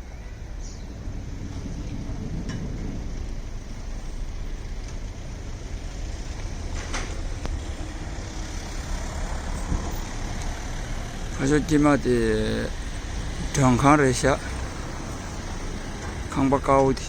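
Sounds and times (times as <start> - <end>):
boat engine rumbling: 0.0 - 17.0
wind and water hiss: 0.0 - 17.0.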